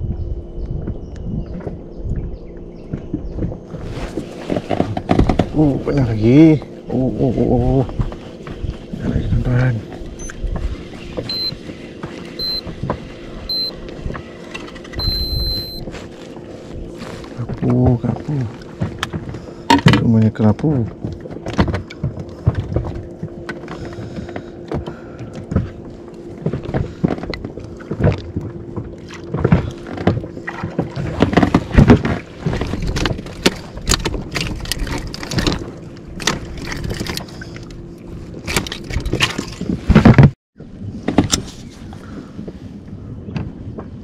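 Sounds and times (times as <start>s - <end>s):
knocks and rattles on inflatable boat: 0.0s - 44.0s
steady low hum: 0.0s - 44.0s.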